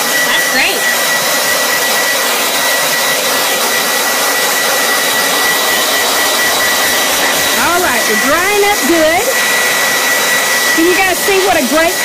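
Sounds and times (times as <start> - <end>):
hair dryer blowing: 0.0 - 12.0
high steady whine: 0.0 - 12.0.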